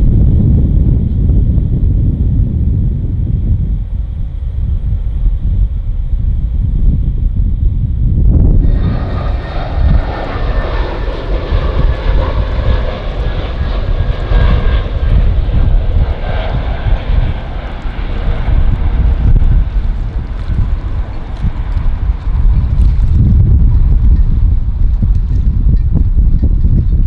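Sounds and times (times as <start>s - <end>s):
jet airliner engines roaring: 0.0s - 27.0s
wind buffeting microphone: 0.0s - 27.0s.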